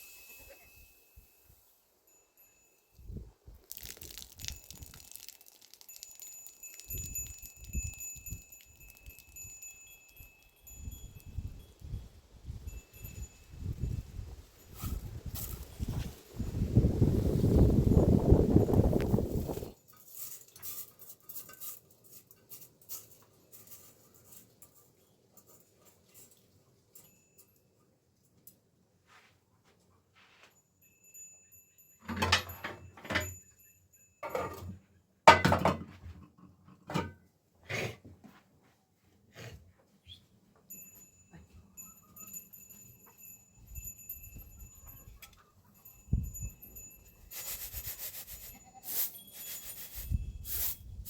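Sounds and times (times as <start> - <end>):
goat bells jingling: 0.0 - 28.0, 30.5 - 35.0, 40.6 - 51.0.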